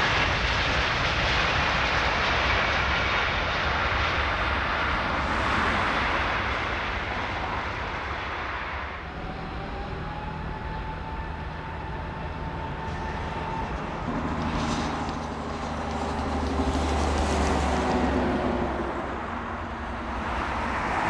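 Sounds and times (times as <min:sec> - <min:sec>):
jet airliner engine whine: 0:00.0 - 0:21.0.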